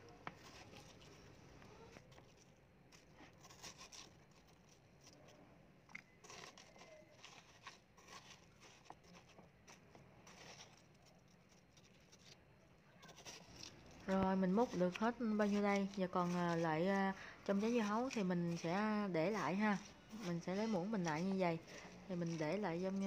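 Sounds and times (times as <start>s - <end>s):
metal spoon scraping watermelon: 0.1s - 12.4s, 13.0s - 23.0s.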